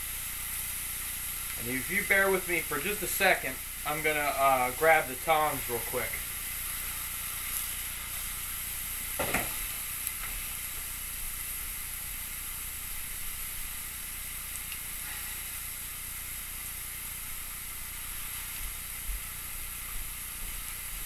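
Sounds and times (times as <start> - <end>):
steaks sizzling on a griddle: 0.0 - 21.0.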